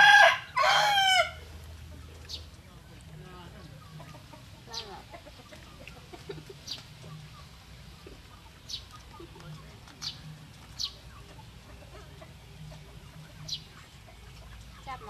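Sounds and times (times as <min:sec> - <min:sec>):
quails chirping: 0:00.0 - 0:15.0
low clucking: 0:01.5 - 0:15.0.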